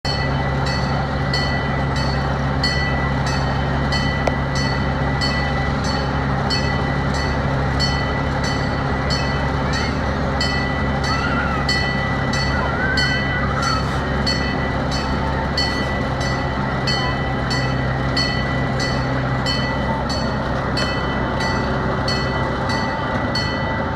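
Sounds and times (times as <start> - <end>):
train rumbling on track: 0.0 - 23.9.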